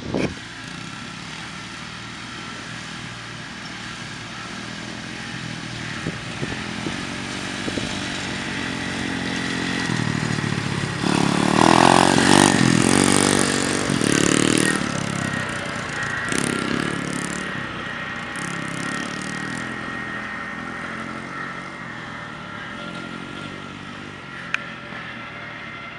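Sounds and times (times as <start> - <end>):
small motorbike engine revving: 0.0 - 25.9.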